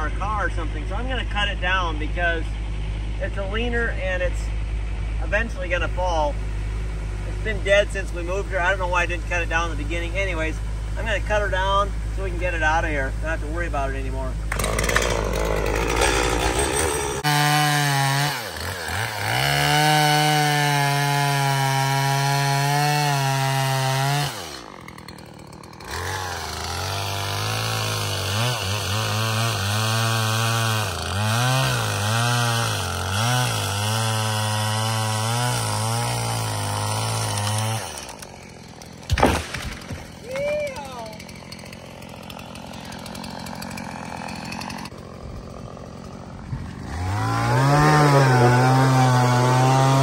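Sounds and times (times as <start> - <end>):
chainsaw engine revving: 5.2 - 50.0.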